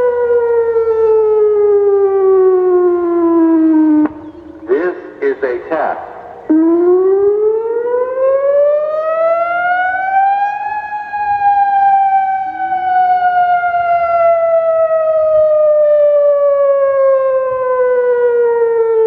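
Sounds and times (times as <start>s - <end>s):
warning siren wailing: 0.0s - 19.0s.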